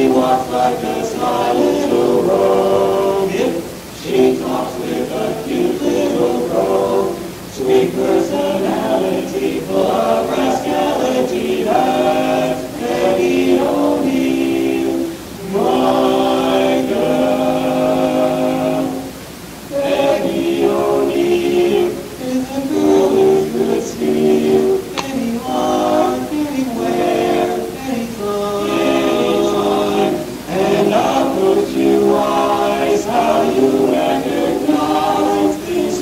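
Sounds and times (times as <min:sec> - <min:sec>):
male quartet singing a cappella: 0:00.0 - 0:36.0.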